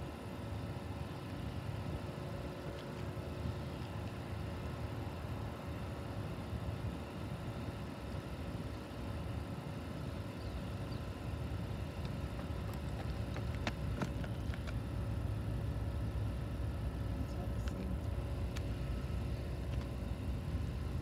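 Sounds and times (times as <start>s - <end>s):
distant diesel locomotive rumble: 0.0s - 21.0s.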